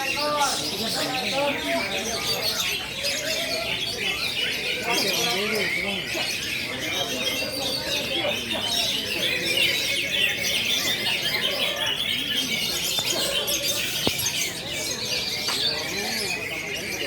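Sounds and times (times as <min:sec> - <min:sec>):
chorus of birds chirping: 0:00.0 - 0:17.0.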